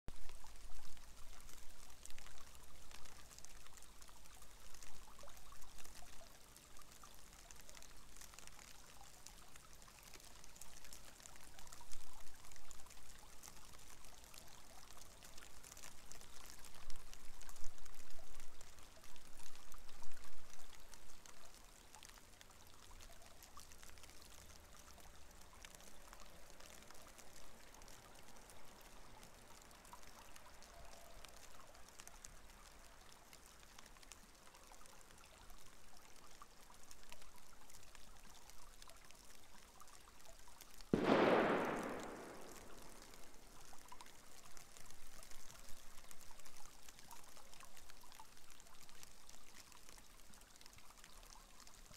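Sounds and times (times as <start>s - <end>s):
water trickling in channel: 0.1s - 51.9s.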